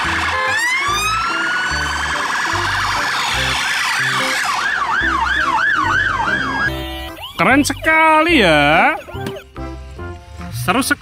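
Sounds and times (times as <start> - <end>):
police siren wailing and yelping: 0.0 - 9.6.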